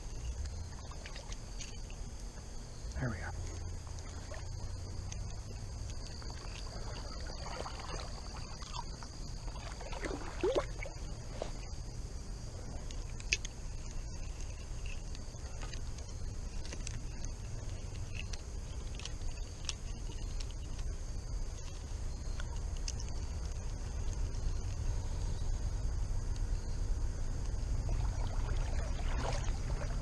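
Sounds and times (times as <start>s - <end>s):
person wading through water: 0.0s - 2.2s, 3.4s - 25.2s, 27.6s - 30.0s
high-pitched insect chorus: 0.0s - 30.0s.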